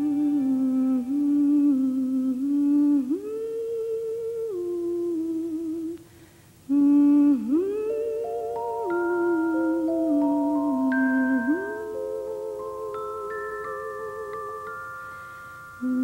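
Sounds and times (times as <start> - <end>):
person humming melody: 0.0 - 6.1, 6.7 - 16.0.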